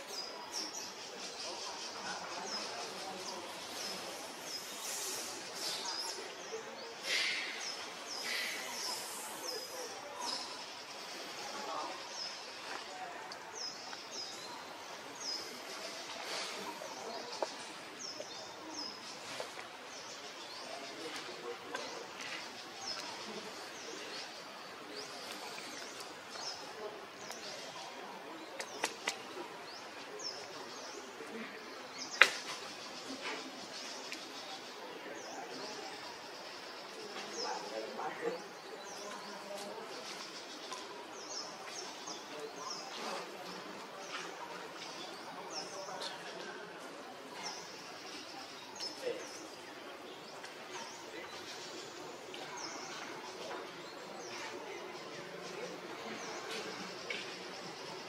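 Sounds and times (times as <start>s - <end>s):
outdoor background hiss: 0.0s - 58.0s
small birds chirping: 0.0s - 58.0s.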